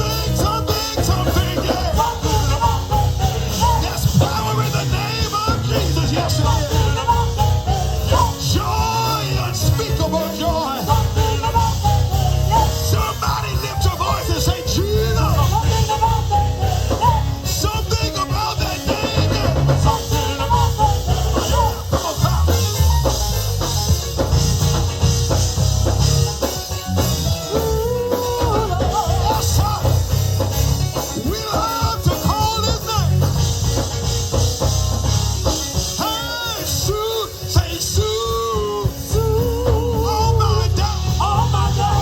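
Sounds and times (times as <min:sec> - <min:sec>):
gospel band playing: 0:00.0 - 0:42.0
organ melody: 0:00.0 - 0:42.0.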